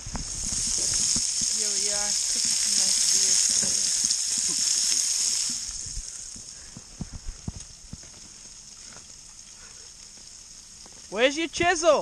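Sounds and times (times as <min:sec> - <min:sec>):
steak sizzling in skillet: 0:00.0 - 0:12.0.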